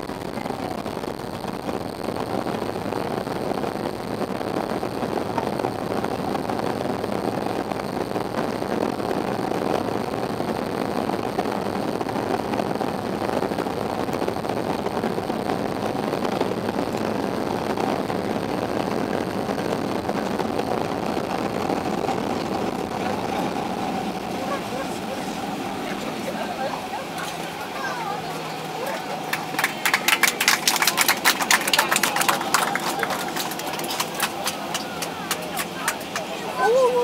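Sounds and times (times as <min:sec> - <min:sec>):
airliner cabin engine rush: 0:00.0 - 0:37.0.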